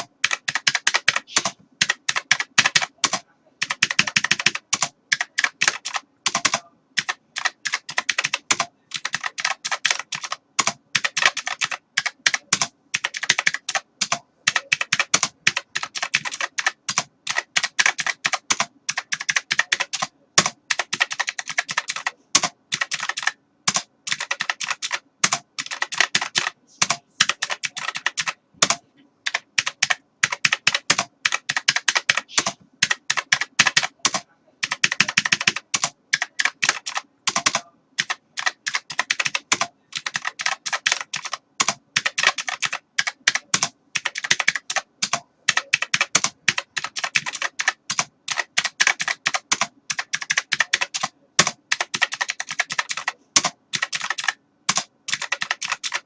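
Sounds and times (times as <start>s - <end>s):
fast typing on keyboard: 0.0s - 56.0s.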